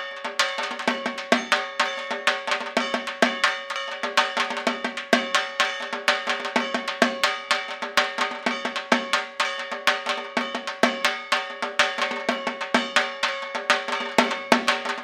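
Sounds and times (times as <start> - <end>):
fast drumming: 0.0 - 15.0
ringing metallic clang: 0.0 - 15.0.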